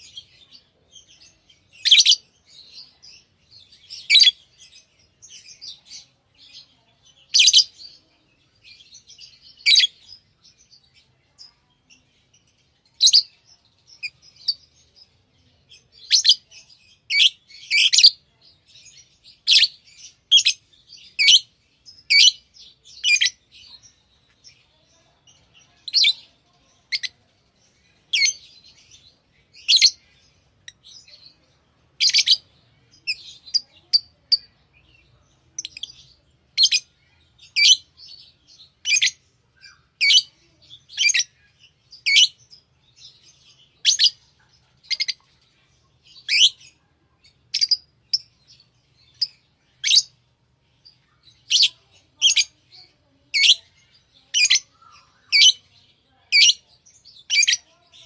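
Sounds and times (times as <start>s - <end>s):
lovebirds chirping: 0.0s - 58.0s
soft bird twittering: 0.0s - 58.0s.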